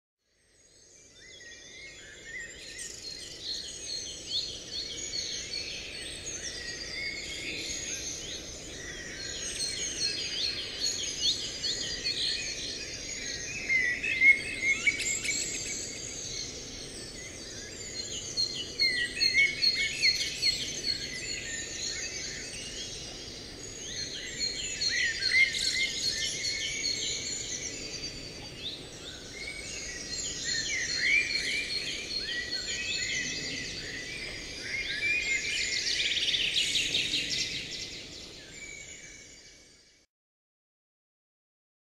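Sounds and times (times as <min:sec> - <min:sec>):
songbirds chorus: 0:00.4 - 0:40.0
low steady hiss: 0:00.6 - 0:40.0.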